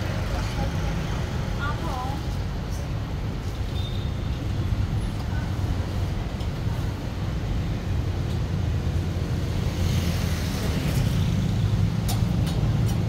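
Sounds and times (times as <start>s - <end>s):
street traffic engine hum: 0.0s - 13.0s.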